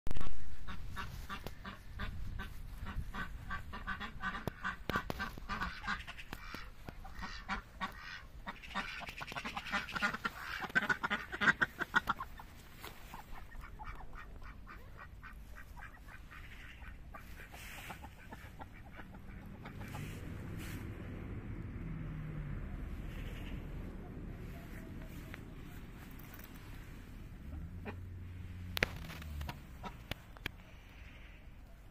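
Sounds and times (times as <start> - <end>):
ducks quacking: 0.2 - 21.4, 22.7 - 31.9.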